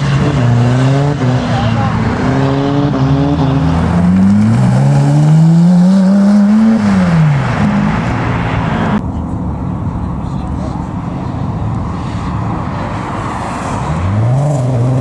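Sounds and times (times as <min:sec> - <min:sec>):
car accelerating hard: 0:00.0 - 0:09.0, 0:10.0 - 0:15.0.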